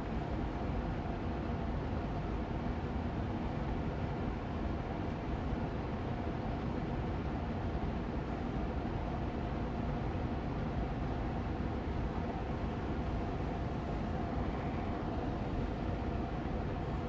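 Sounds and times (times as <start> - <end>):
air purifier fan running: 0.0 - 17.0.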